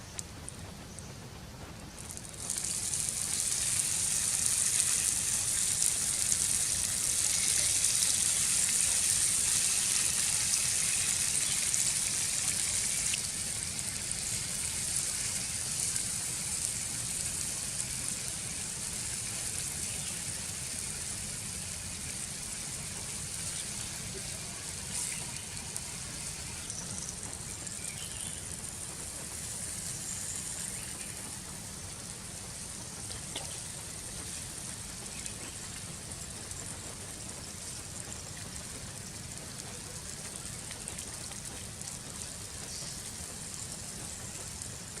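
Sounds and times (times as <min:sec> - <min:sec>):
food sizzling on hot stone: 0:01.9 - 0:45.0.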